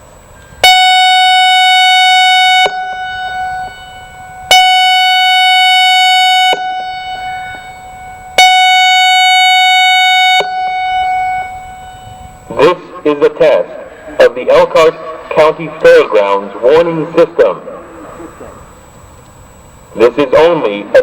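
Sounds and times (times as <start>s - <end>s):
warning siren blasts: 0.1s - 21.0s.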